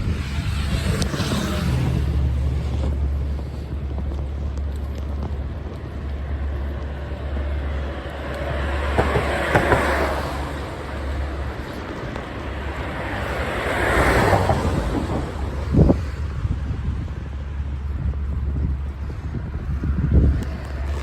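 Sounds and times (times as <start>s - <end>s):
vehicle passing close: 0.0s - 4.2s, 4.9s - 17.5s
road traffic: 0.0s - 21.0s
wind rumble on microphone: 0.0s - 21.0s.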